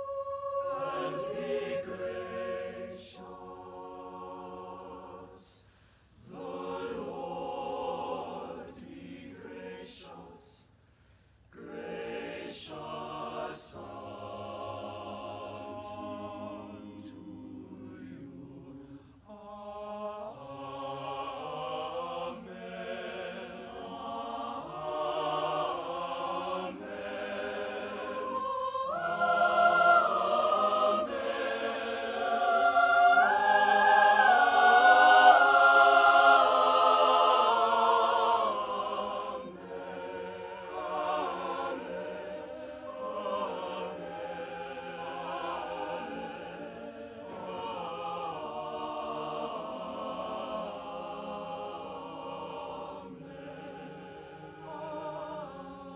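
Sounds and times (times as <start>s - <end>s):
mixed choir singing: 0.0s - 10.7s, 11.5s - 55.9s.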